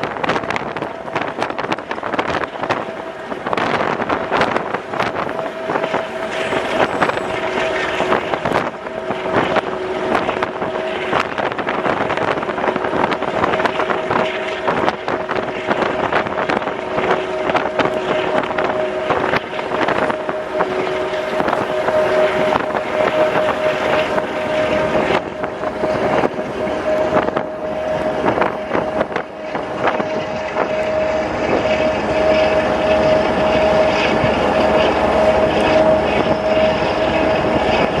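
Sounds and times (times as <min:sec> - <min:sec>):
steady hum: 0:00.0 - 0:38.0
train rumbling on rails: 0:00.0 - 0:38.0.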